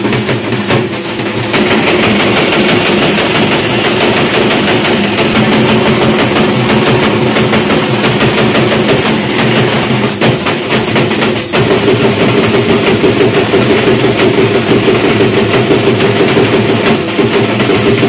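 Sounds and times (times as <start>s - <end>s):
held drone: 0.0s - 17.6s
drums in fast rhythm: 0.0s - 18.0s.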